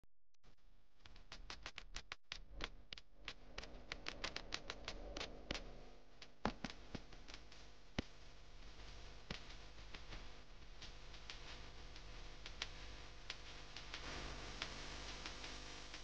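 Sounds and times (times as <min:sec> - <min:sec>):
faint clicking and crackling: 0:01.0 - 0:16.0.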